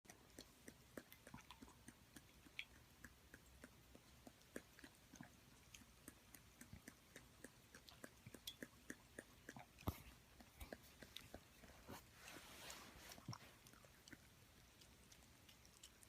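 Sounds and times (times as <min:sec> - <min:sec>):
puppy chewing and smacking: 0:00.1 - 0:16.0.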